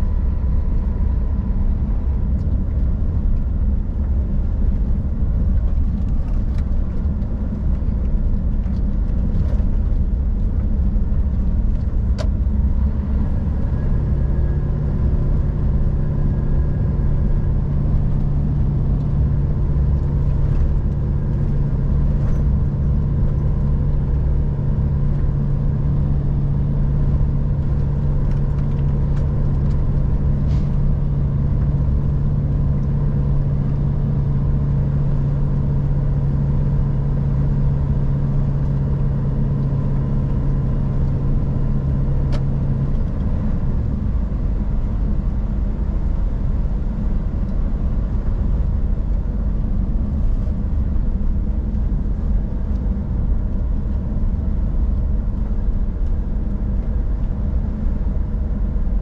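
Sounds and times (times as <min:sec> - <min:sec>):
low engine hum: 0:00.0 - 0:59.0
road noise: 0:00.0 - 0:59.0
truck diesel engine running: 0:00.0 - 0:59.0.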